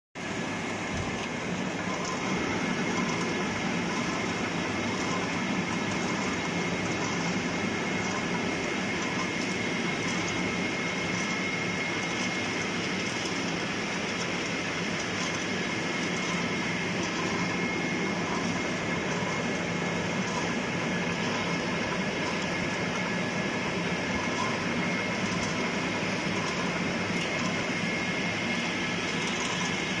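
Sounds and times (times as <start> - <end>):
steady machine whining tones: 0.2 - 30.0.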